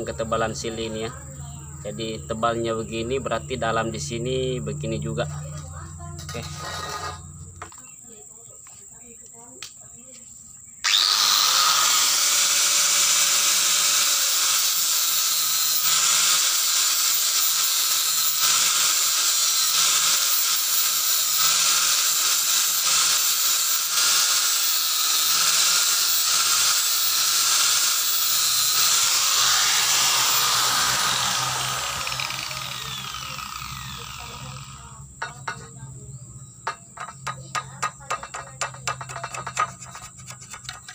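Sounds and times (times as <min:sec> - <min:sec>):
angle grinder cutting wood: 0:01.9 - 0:07.8, 0:10.8 - 0:35.8, 0:36.6 - 0:40.9
grinder disc spinning down: 0:03.7 - 0:07.8, 0:10.8 - 0:35.8, 0:36.6 - 0:40.9.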